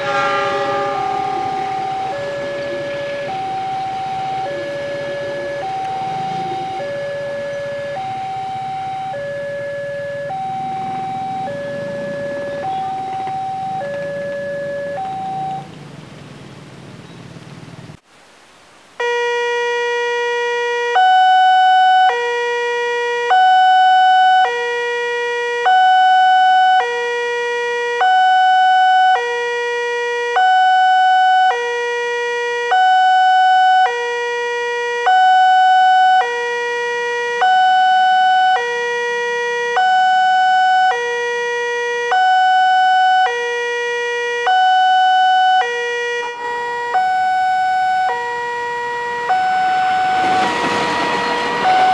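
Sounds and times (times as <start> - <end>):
two-tone crossing alarm: 0.0 - 15.8, 19.0 - 51.9.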